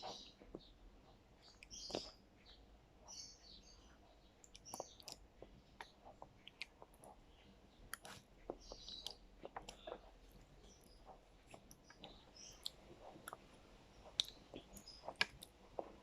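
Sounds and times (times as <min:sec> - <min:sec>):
spoon and mouth eating yogurt: 0:00.0 - 0:16.0.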